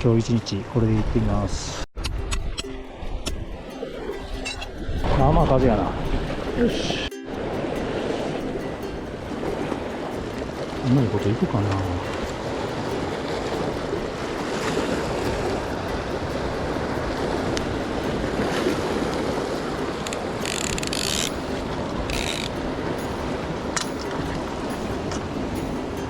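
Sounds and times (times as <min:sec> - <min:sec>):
wind buffeting microphone: 0:00.8 - 0:26.0
sea waves washing on rocks: 0:03.8 - 0:26.0.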